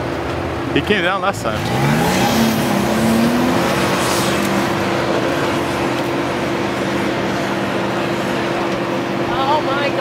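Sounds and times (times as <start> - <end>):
pickup engine running: 0.0 - 10.0.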